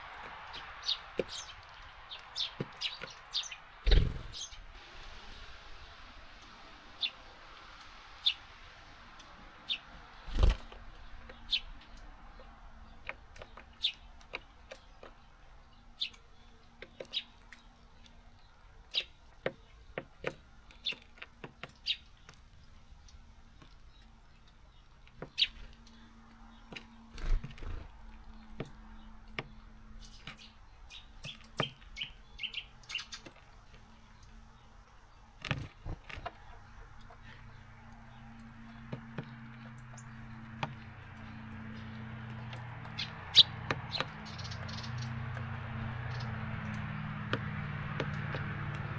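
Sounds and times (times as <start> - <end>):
birds tapping and pecking feeder: 0.0 - 5.5, 6.3 - 48.9
birds chirping: 0.0 - 48.9.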